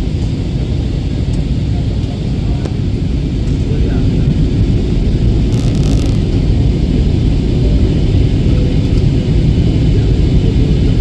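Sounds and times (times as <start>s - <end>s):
airplane low rumble: 0.0s - 11.0s.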